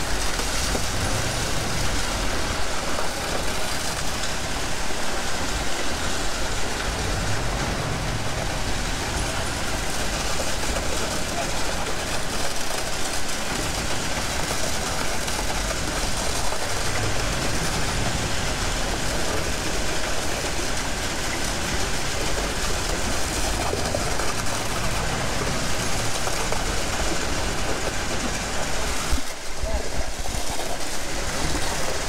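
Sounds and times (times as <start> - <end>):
truck engine running: 0.0 - 29.8.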